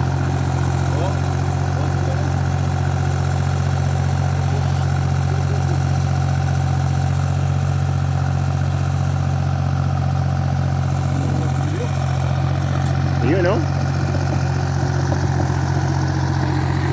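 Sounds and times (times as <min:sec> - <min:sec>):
backhoe engine running steadily: 0:00.0 - 0:16.9.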